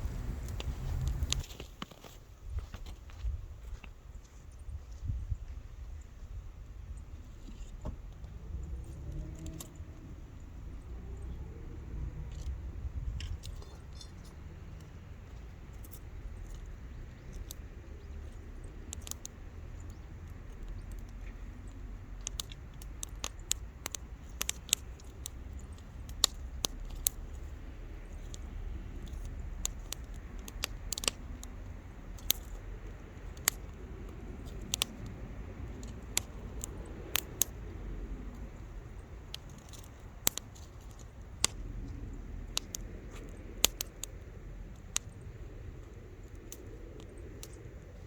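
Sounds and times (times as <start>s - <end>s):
low steady rumble: 0.0s - 1.6s, 5.0s - 48.0s
campfire crackling and popping: 0.0s - 1.9s, 8.9s - 10.0s, 11.2s - 48.0s.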